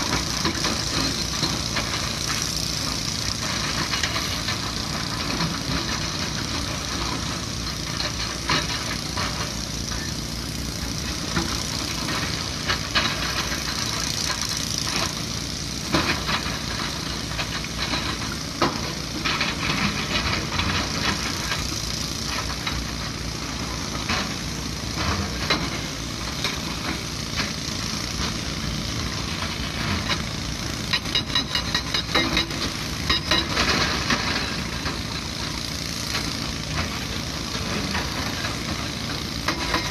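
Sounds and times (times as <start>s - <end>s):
excavator diesel engines running: 0.0s - 39.9s
hydraulic rock breaker hammering: 0.0s - 39.9s.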